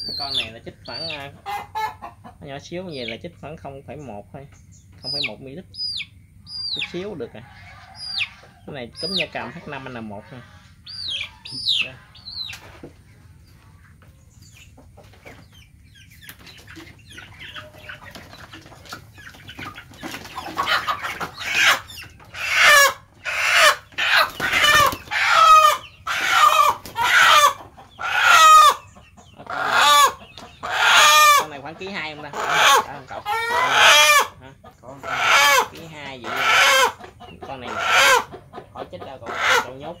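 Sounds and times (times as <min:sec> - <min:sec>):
chicken squawking: 0:00.0 - 0:03.2, 0:05.0 - 0:12.8, 0:14.6 - 0:40.0.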